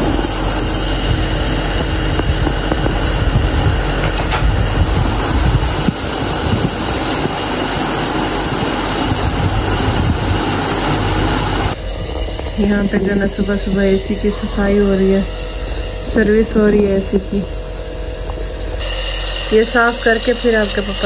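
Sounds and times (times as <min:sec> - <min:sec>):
nebulizer compressor drone: 0:00.0 - 0:21.0.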